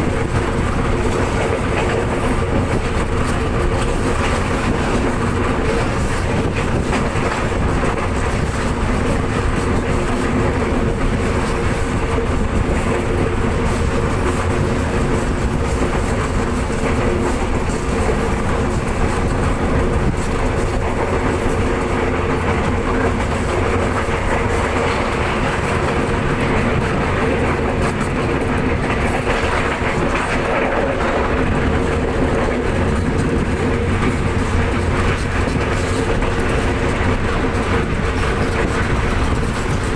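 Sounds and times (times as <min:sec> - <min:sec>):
train hum: 0:00.0 - 0:39.9
train rumbling on rails: 0:00.0 - 0:39.9.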